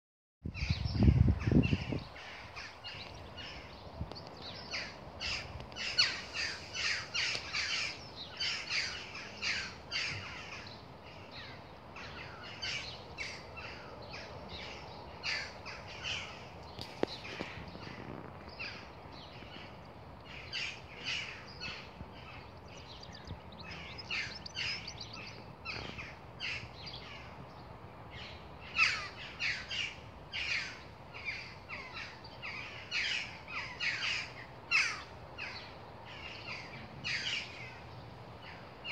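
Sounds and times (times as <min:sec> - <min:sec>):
birds chirping: 0:00.6 - 0:38.9
low background noise: 0:00.8 - 0:38.9.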